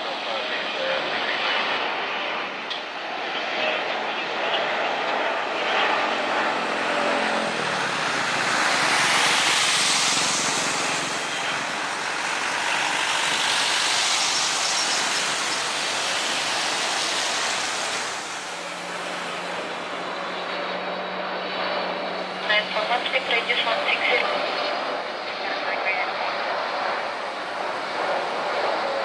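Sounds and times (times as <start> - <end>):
airliner jet engines roaring: 0.0 - 29.0.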